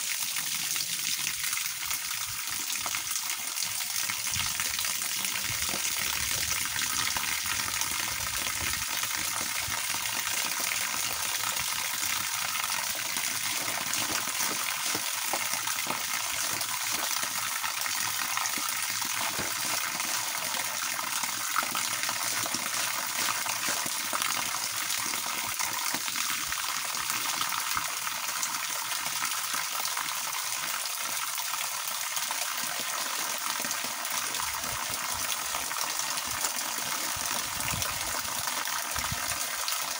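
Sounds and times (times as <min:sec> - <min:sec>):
water pouring and splashing: 0:00.0 - 0:39.9.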